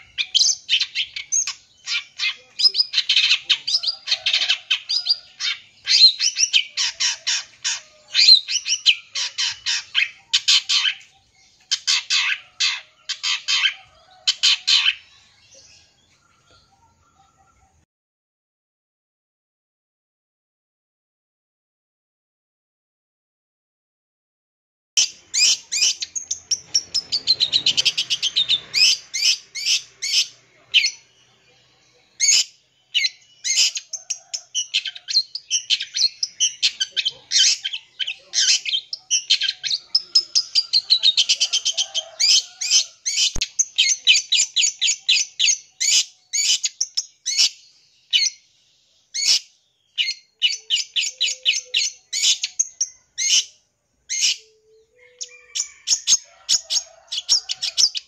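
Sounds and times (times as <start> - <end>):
bird singing rapid chirps and trills: 0.0 - 17.8, 25.0 - 58.0.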